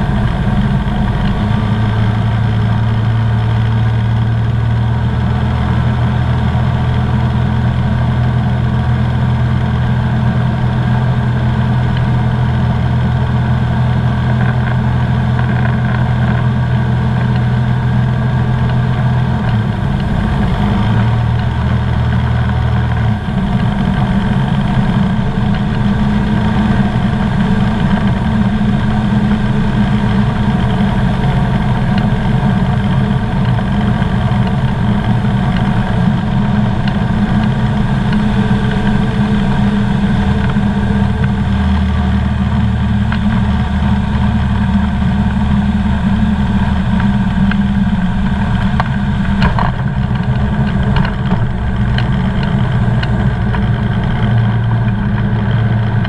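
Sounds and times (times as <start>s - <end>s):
aircraft engine and propeller drone: 0.0s - 56.0s.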